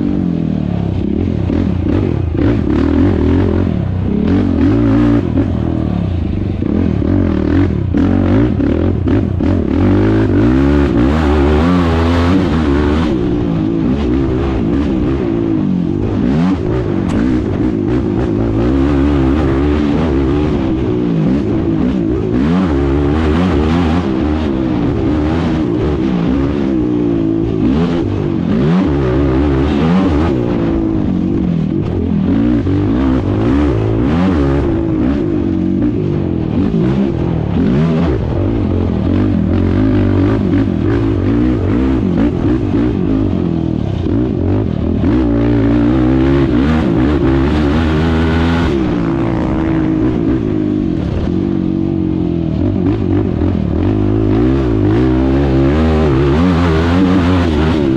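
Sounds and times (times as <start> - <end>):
quad engine revving: 0.0 - 57.9.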